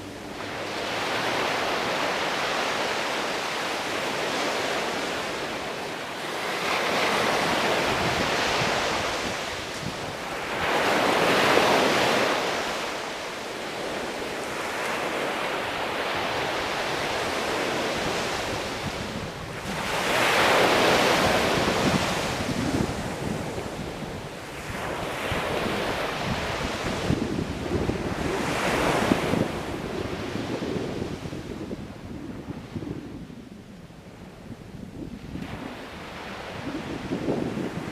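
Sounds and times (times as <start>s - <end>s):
ocean waves washing up: 0.0s - 32.3s.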